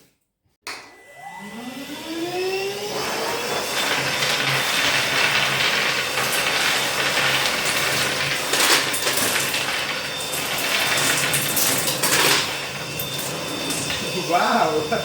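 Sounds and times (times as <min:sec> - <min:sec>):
vacuum blower motor whine: 0:00.7 - 0:15.0.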